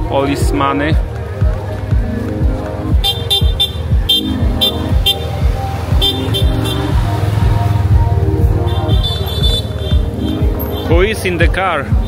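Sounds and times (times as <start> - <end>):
dance music beat: 0.0 - 12.0.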